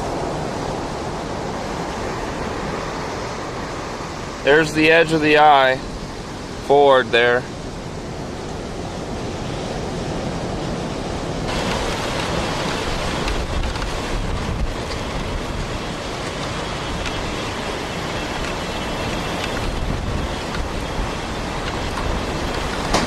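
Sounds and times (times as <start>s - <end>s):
hurricane wind buffeting microphone: 0.0s - 23.0s.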